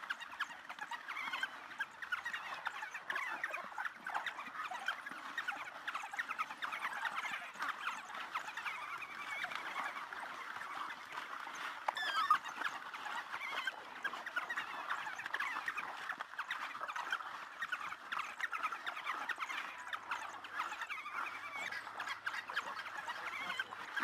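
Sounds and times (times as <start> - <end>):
wild dogs twittering: 0.1 - 24.0.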